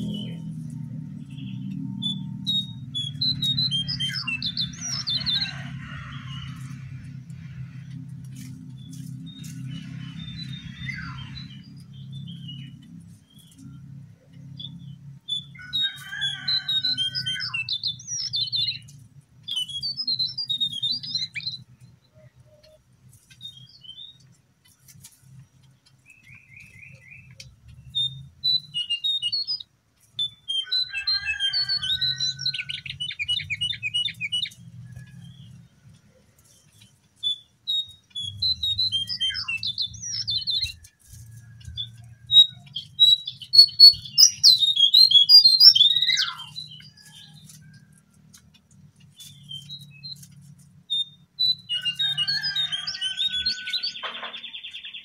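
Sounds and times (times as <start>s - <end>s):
songbird squeaky chirps: 0.0s - 6.8s, 8.3s - 55.0s.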